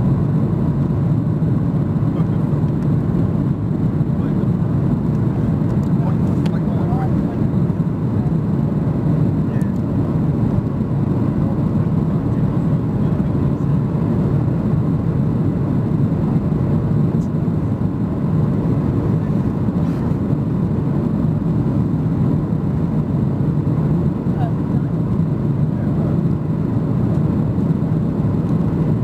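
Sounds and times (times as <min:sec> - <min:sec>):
aircraft cabin roar: 0:00.0 - 0:29.0.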